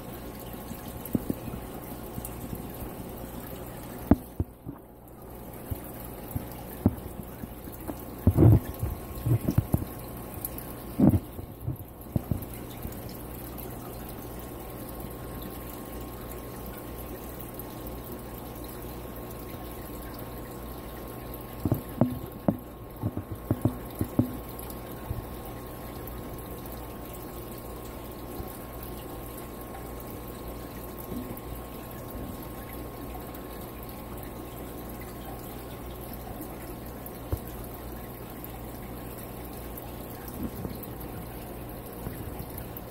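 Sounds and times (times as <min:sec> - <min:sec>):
aquarium air stone bubbling: 0:00.0 - 0:42.9.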